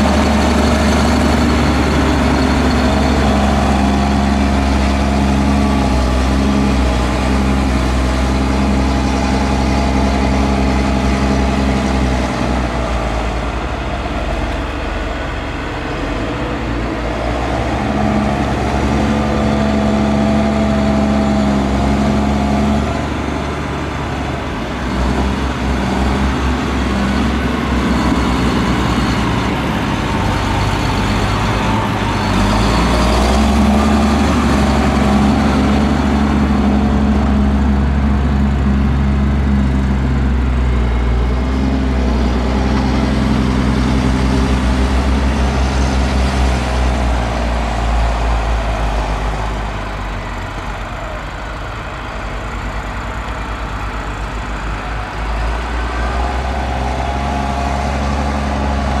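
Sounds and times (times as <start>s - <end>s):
tractor diesel engine working: 0.0s - 59.0s.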